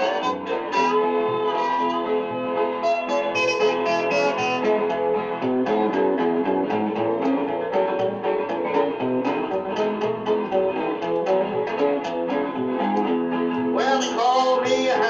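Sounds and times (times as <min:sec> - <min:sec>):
rockabilly guitar picking: 0:00.0 - 0:15.0.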